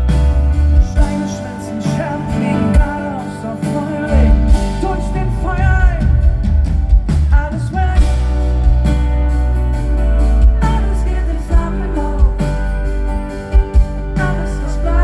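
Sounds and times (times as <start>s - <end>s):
person singing: 0.0s - 9.0s, 9.9s - 15.0s
live pop rock band: 0.0s - 15.0s.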